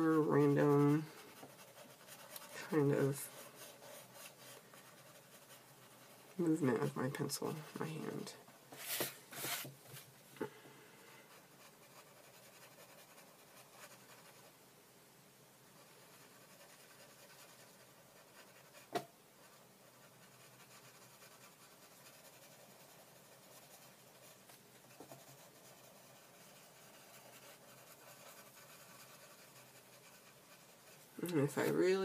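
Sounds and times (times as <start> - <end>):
pencil scratching on paper: 0.0 - 8.2, 11.3 - 14.5, 15.8 - 32.0.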